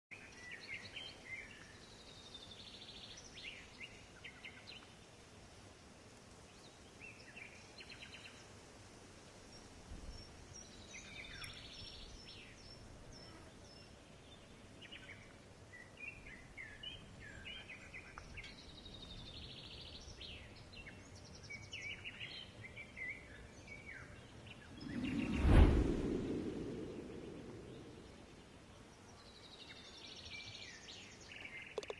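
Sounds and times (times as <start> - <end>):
songbirds singing: 0.1 - 5.2, 6.4 - 8.6, 9.4 - 25.4, 26.8 - 31.9.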